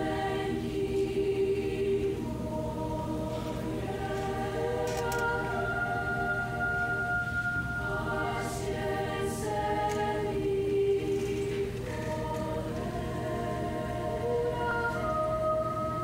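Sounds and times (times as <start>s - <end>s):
choir singing long chords: 0.0s - 16.0s.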